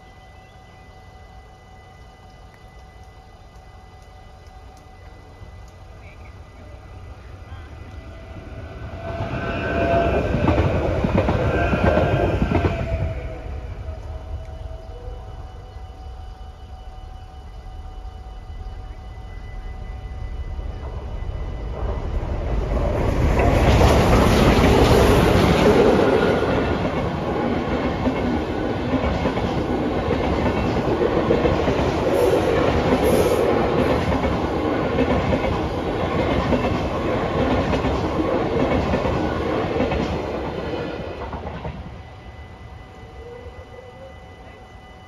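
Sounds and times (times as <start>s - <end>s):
steam locomotive passing: 0.0s - 45.0s.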